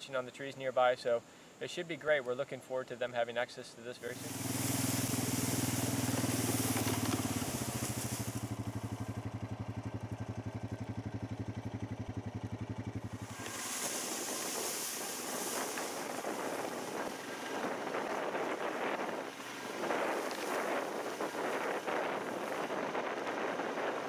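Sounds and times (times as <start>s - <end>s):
vehicle engine throbbing: 4.1s - 24.0s
wind buffeting microphone: 4.2s - 24.0s.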